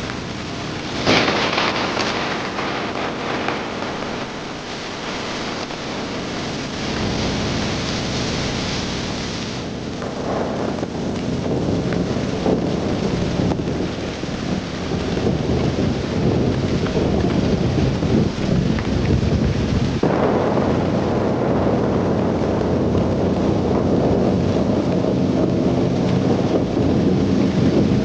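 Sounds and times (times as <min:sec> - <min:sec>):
heavy rain falling: 0:00.0 - 0:28.0
low rumble of thunder: 0:00.0 - 0:28.0.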